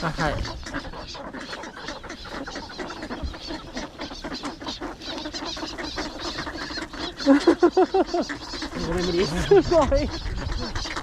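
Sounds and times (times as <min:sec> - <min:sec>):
duck bills pecking clatter: 0:00.0 - 0:11.0
ducks quacking quickly: 0:00.0 - 0:11.0.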